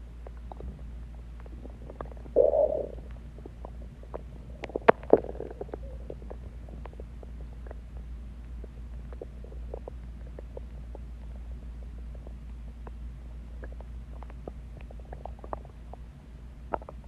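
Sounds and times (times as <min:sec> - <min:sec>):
stomach gurgling and growling: 0:00.0 - 0:17.0.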